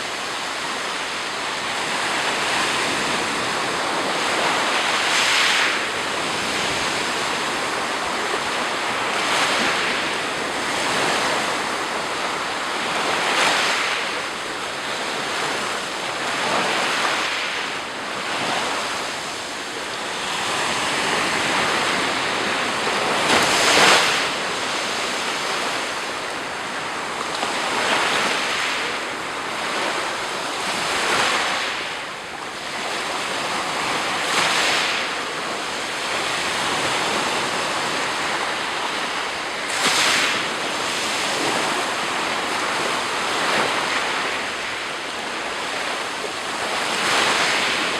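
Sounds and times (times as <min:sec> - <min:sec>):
waves breaking on shore: 0:00.0 - 0:47.9
wind on microphone: 0:00.0 - 0:47.9.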